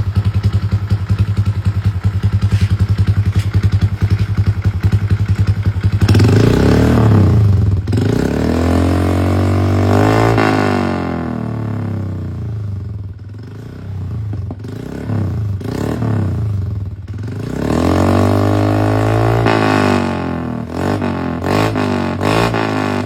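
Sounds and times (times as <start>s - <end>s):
scooter engine idling and revving: 0.0s - 23.0s.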